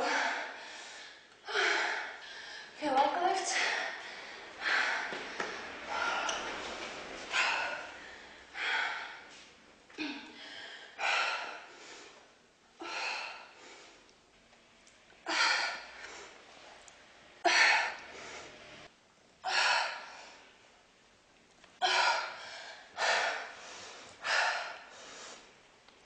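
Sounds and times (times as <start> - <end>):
woman's sharp exertion breaths: 0.0 - 2.8, 3.4 - 14.0, 15.2 - 16.4, 17.4 - 20.5, 21.8 - 25.6.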